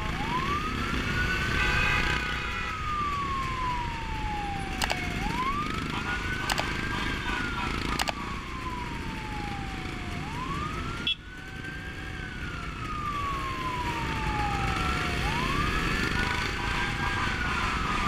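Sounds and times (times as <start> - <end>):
motorcycle engines running: 0.0 - 18.0
wailing siren: 0.0 - 18.0.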